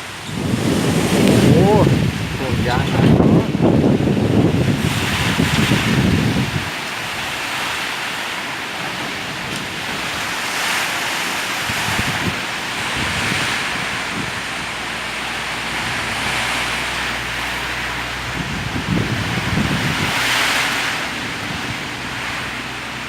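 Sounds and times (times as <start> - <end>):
heavy rain downpour: 0.0 - 23.0
strong wind gusts: 0.0 - 23.0.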